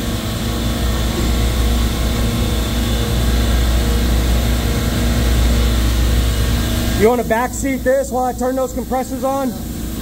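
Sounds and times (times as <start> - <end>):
refrigeration machinery droning: 0.0 - 10.0.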